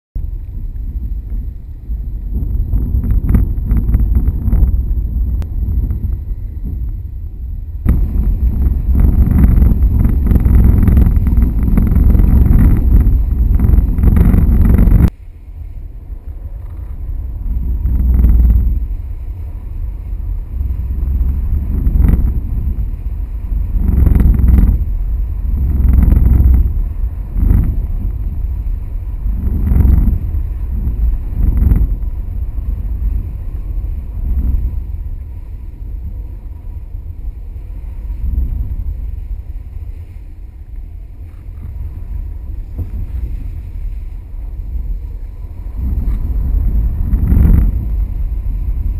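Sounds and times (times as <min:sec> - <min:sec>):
wind buffeting microphone: 0:00.2 - 0:48.9.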